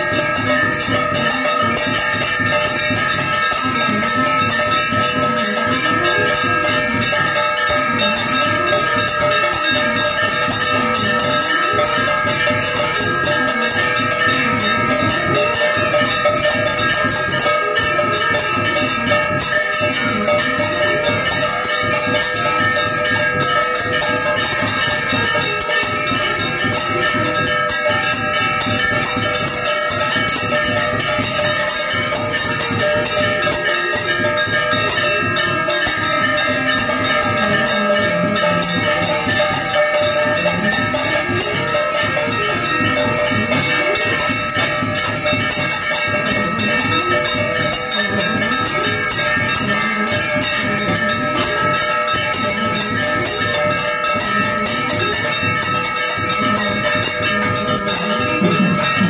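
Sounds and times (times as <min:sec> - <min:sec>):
temple bells ringing: 0:00.0 - 0:59.0.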